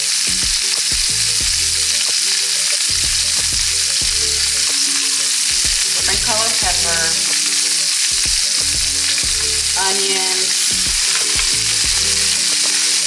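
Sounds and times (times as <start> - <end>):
peppers sizzling in a frying pan: 0.0 - 13.0.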